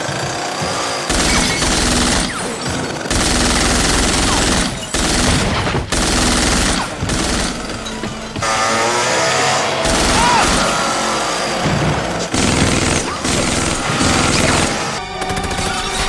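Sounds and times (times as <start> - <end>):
submachine gun fire: 1.1 - 7.8, 9.8 - 16.0.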